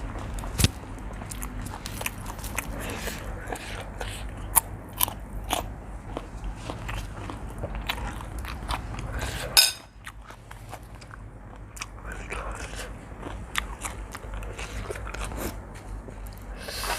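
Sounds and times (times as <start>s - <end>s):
person chewing noodles: 1.1s - 16.9s.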